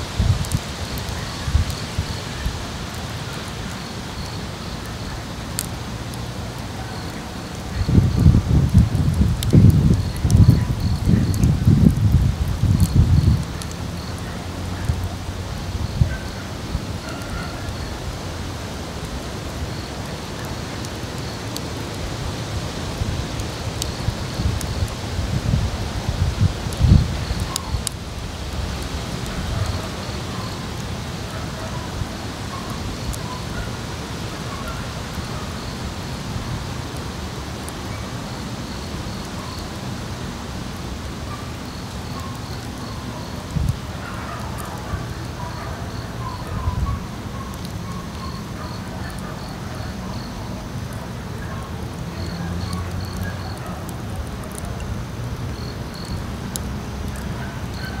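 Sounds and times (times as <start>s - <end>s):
insect chirping: 0.0s - 50.8s, 51.4s - 58.0s
steady hiss with low rumble: 0.0s - 58.0s.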